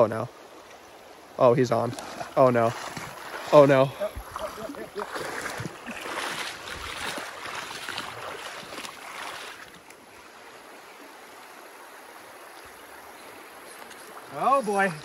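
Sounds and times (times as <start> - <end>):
river water rushing over riffle: 0.3 - 15.0.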